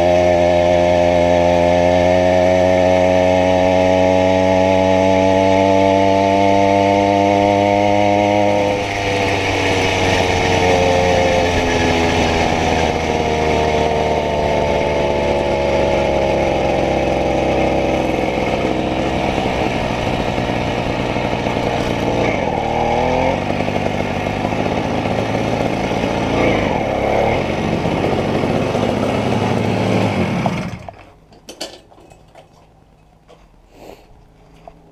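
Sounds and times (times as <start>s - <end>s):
two-stroke bicycle engine: 0.0s - 33.4s.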